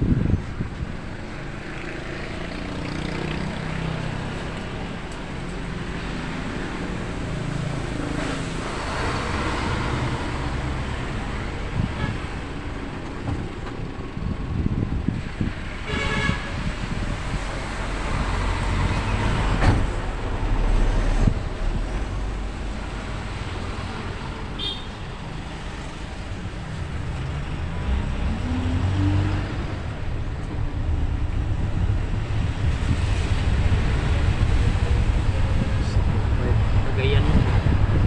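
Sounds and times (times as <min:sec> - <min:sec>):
minibus engine: 0:00.0 - 0:38.0
road noise: 0:00.0 - 0:38.0.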